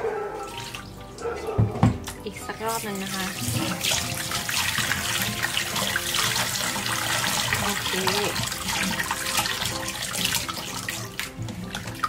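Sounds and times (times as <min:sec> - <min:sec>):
hand squeezing liver in water: 0:00.0 - 0:12.0
tap water running into sink: 0:00.4 - 0:12.0.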